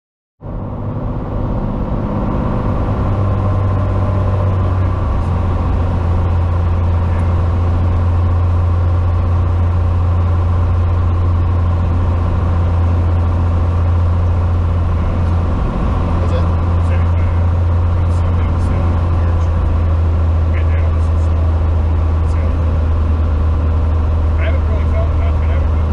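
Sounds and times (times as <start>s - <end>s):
aircraft engine and propeller droning: 0.4s - 25.9s.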